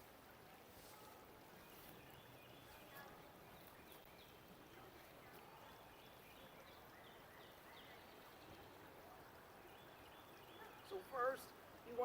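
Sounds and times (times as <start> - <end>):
soft outdoor hiss: 0.0 - 12.0.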